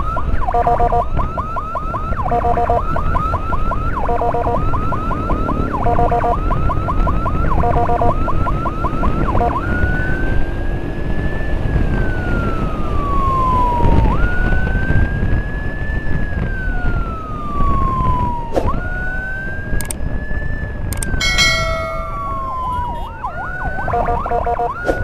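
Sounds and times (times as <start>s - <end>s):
emergency vehicle siren: 0.0s - 25.0s
motorcycle wind and road rumble: 0.0s - 25.0s.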